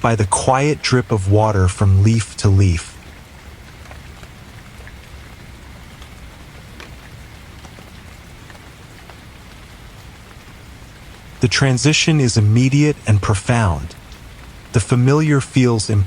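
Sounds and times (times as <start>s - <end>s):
faint drips: 0.0s - 16.0s
rain falling on leaves: 0.0s - 16.0s.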